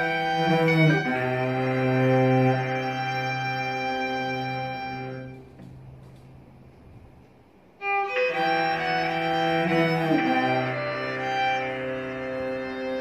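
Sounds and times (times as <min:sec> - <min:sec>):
electric violin and cello melody: 0:00.0 - 0:05.7, 0:07.8 - 0:13.0.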